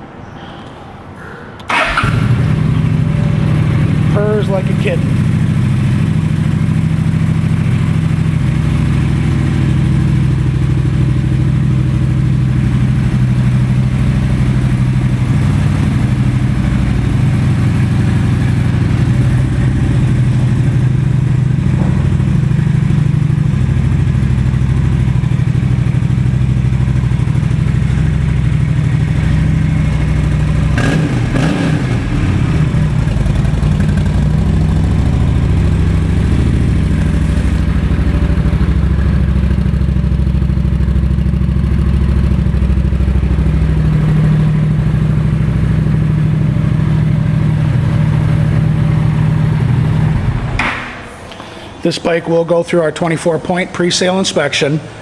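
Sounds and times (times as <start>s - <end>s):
motorcycle engine idling: 1.7s - 51.2s.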